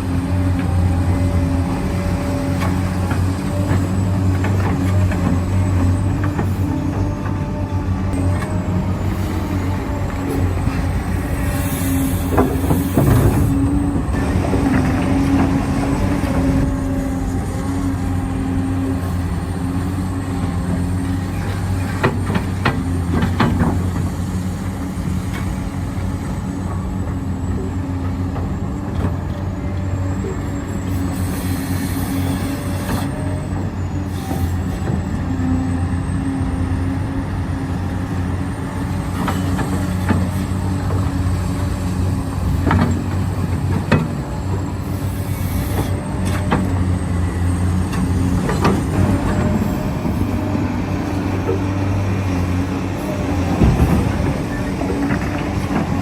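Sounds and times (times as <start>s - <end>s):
electric motors humming and whining: 0.0s - 56.0s.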